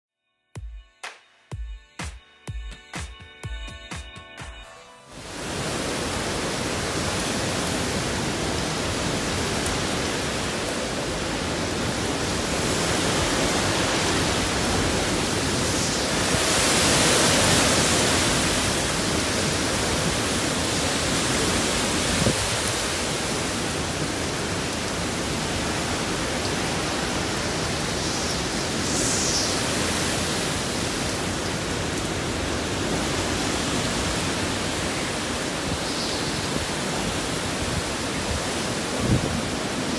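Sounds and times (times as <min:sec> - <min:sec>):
strong wind through palm trees: 0:05.1 - 0:39.9.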